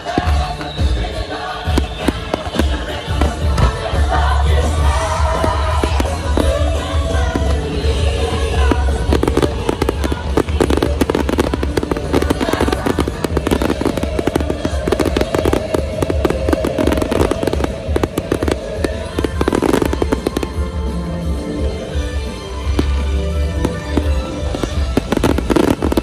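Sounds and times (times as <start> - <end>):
fireworks bangs and crackles: 0.0 - 26.0
loud rock music: 0.0 - 26.0.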